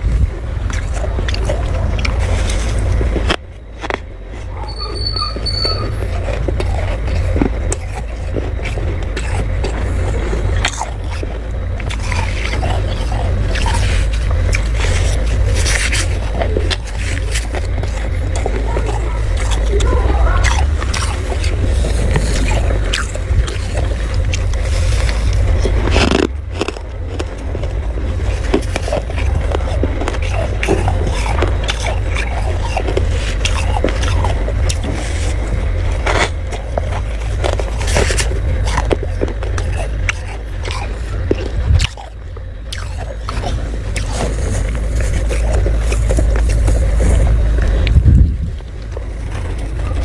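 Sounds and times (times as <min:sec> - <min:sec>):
freezer frost crunching: 0:00.0 - 0:50.0
low rumble: 0:00.0 - 0:50.0
steady low hum: 0:00.0 - 0:50.0.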